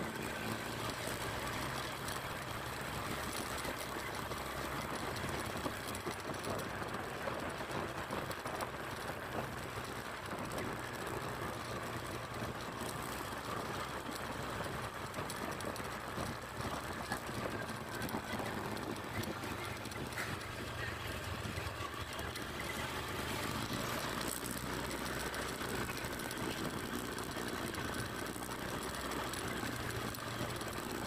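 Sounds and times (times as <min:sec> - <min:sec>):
road and wind noise: 0:00.0 - 0:31.0
vehicle engine running: 0:00.0 - 0:31.0.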